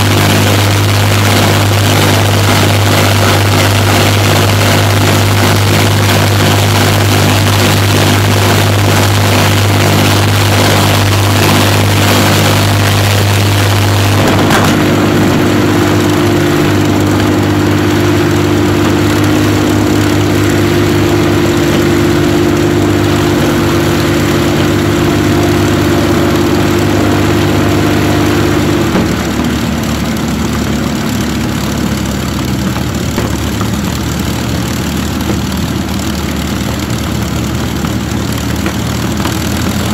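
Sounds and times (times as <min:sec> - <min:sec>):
aero engine running: 0:00.0 - 0:39.9.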